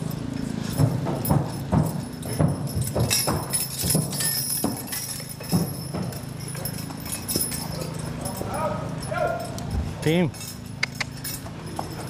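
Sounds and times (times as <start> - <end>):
hooves thudding in sand: 0.0 - 10.0.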